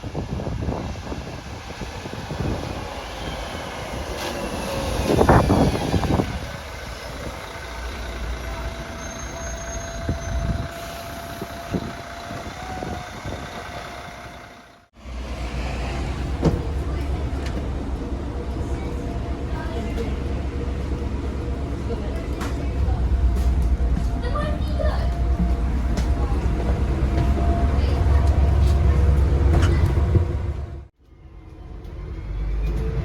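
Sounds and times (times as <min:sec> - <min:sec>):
diesel bus engine running: 0:00.0 - 0:30.9.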